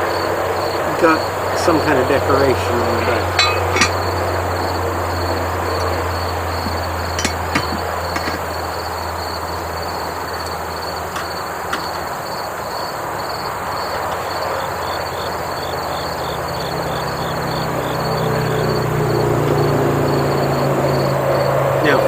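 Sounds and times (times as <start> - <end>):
insects chirping: 0.0 - 22.0
rushing background noise: 0.0 - 22.0.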